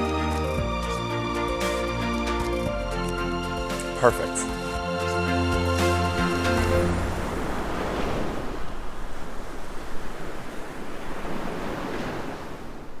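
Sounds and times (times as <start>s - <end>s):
ocean surf hissing: 0.0s - 13.0s.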